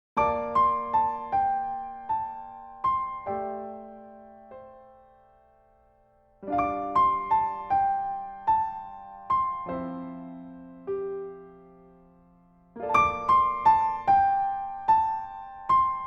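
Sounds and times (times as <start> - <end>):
solo piano: 0.2 - 16.0.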